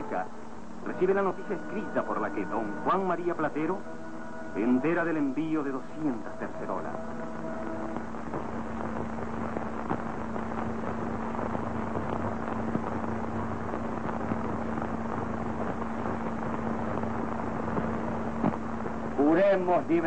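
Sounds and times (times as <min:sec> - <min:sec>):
film soundtrack hiss and crackle: 0:00.0 - 0:20.0
steady low hum: 0:00.0 - 0:20.0.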